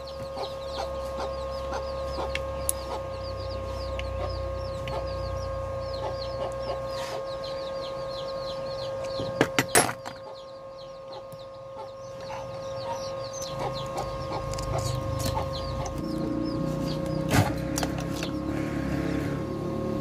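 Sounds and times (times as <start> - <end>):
birds chirping rapidly: 0.0 - 20.0
steady hum: 0.0 - 20.0.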